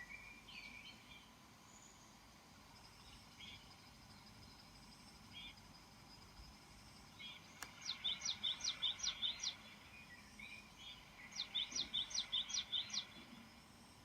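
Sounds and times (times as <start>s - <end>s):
small bird singing: 0.0s - 14.0s.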